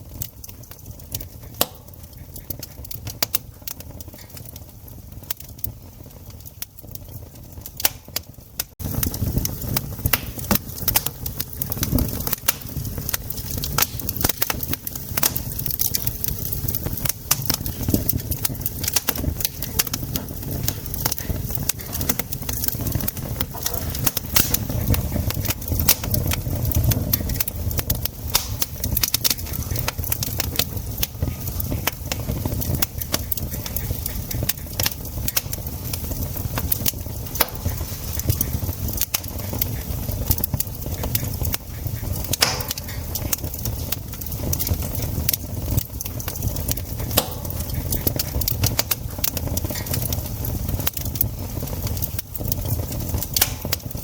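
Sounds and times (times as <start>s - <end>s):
campfire snaps and pops: 0.0s - 54.0s
low fire rumble: 0.0s - 54.0s.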